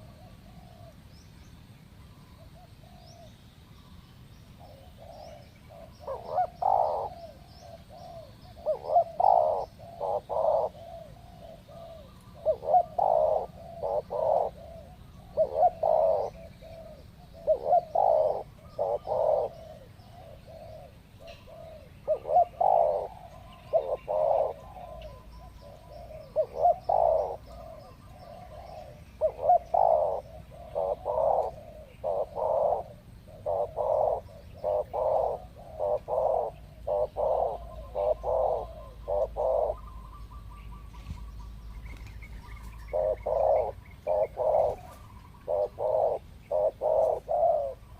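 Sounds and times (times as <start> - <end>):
doves cooing: 0.0 - 1.1, 4.5 - 47.9.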